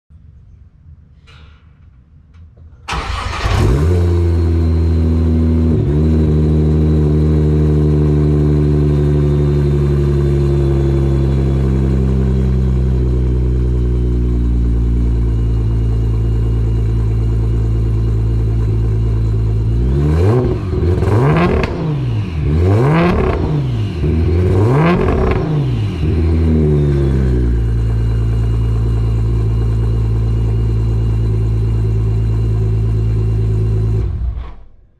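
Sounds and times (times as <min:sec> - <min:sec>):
car engine starting: 0:02.8 - 0:34.9
car engine idling: 0:02.9 - 0:34.5
car engine revving: 0:02.9 - 0:34.7.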